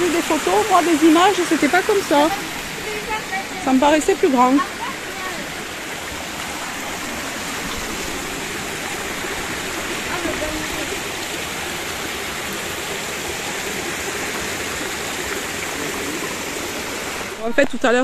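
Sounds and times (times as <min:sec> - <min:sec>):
waterfall and stream rushing over rock: 0:00.0 - 0:18.0.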